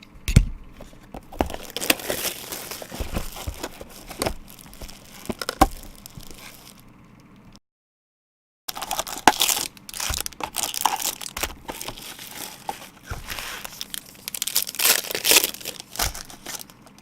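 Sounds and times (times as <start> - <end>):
card wrappers crinkling and ripping: 0.8 - 6.8, 8.7 - 17.0.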